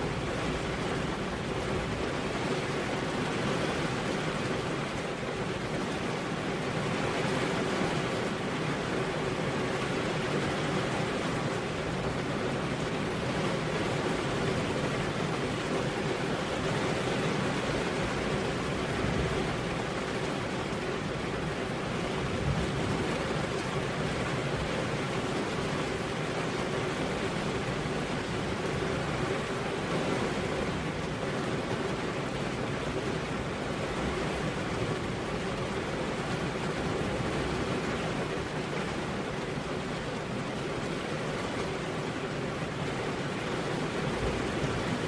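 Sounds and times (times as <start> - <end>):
heavy rain on a road: 0.0 - 45.0.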